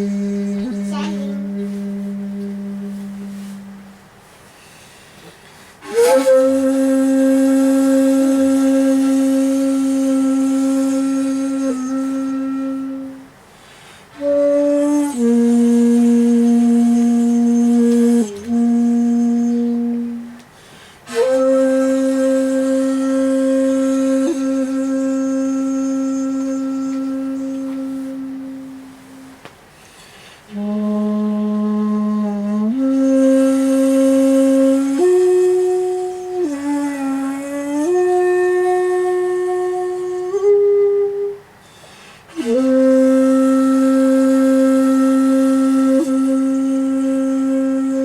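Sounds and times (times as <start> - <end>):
bamboo flute solo: 0.0 - 5.0, 5.8 - 48.0
shakuhachi long held notes: 0.0 - 5.0, 5.7 - 48.0.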